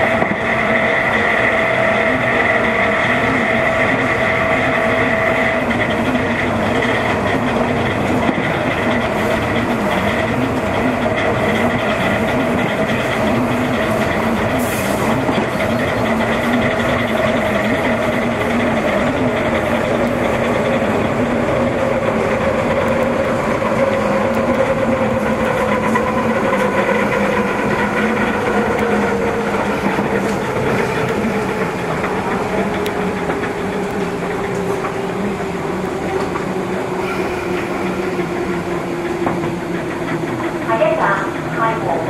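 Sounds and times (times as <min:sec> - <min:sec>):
train wheels on rails: 0:00.0 - 0:42.0.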